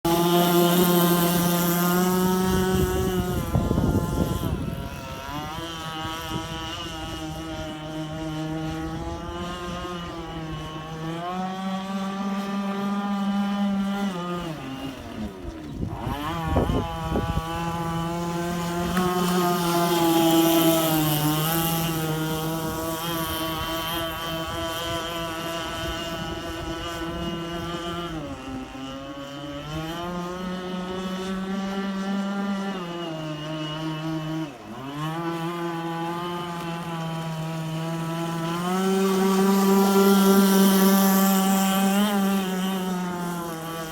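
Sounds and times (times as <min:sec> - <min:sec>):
model boat engine running: 0:00.0 - 0:43.9.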